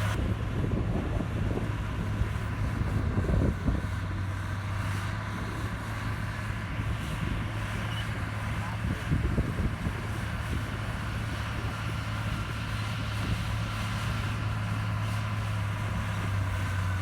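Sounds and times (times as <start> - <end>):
diesel machinery engine hum: 0.0 - 17.0.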